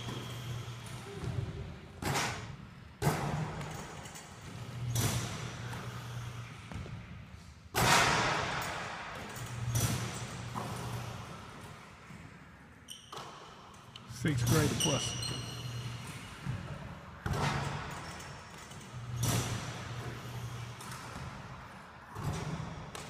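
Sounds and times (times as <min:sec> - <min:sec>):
basketballs thudding in a gym: 0:00.0 - 0:12.4, 0:13.1 - 0:23.0.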